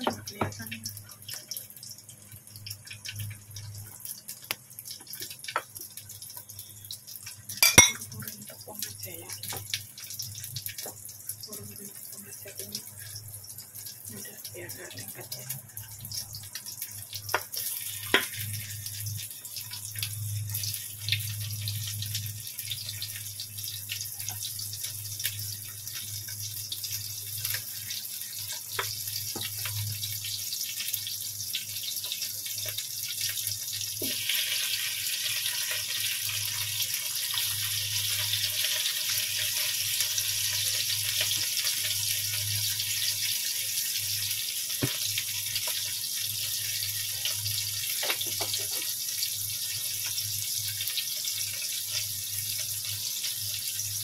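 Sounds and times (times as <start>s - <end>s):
chilies sizzling in hot oil: 0.0s - 54.0s.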